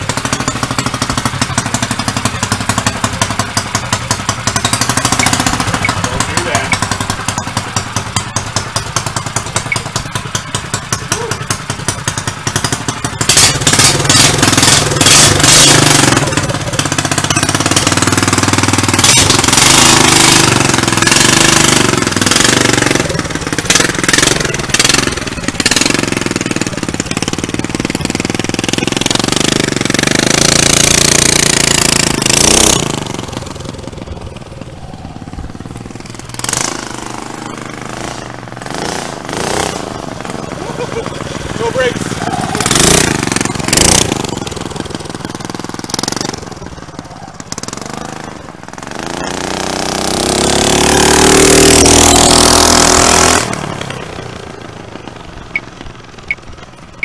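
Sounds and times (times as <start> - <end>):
small engine idling and revving: 0.0 - 57.0.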